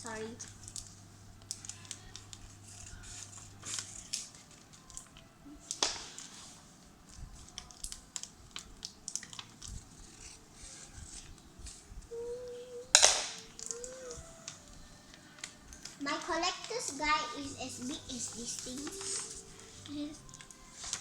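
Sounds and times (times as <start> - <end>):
paper and tape rustling: 0.0 - 21.0.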